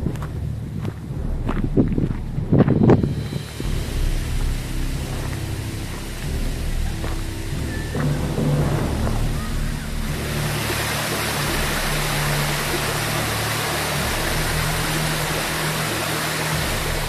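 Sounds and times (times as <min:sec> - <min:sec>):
low background music: 0:00.0 - 0:17.0
rushing water: 0:02.2 - 0:17.0.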